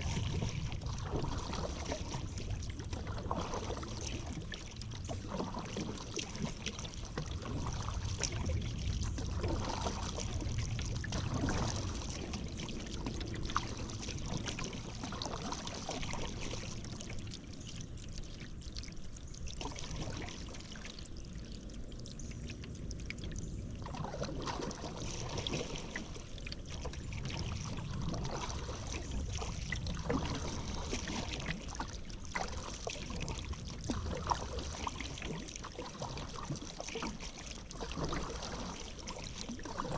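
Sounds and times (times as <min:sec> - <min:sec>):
paddle dipping into water: 0:00.0 - 0:39.9
water splashing and dripping: 0:00.0 - 0:39.9.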